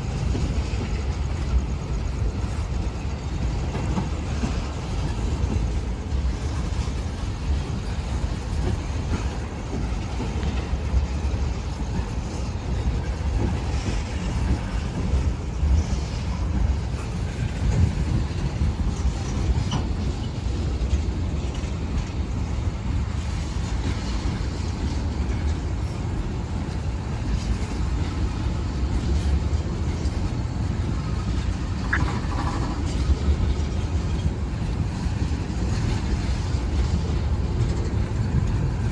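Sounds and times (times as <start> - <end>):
rumble of wheels on rail: 0.0 - 38.9.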